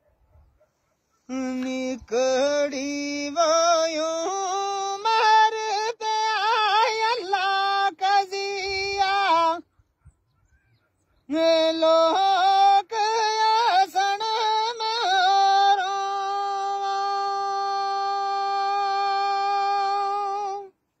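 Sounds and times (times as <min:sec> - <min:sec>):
man singing unaccompanied: 0:01.2 - 0:09.7, 0:11.2 - 0:20.8.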